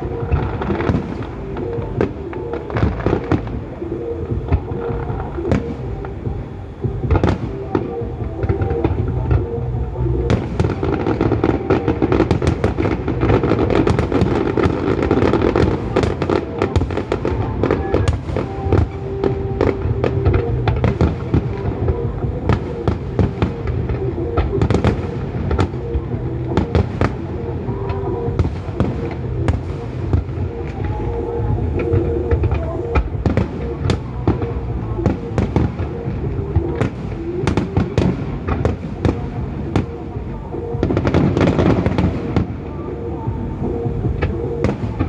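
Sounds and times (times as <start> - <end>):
fireworks bangs and crackles: 0.0 - 45.0
music playing: 0.0 - 45.0.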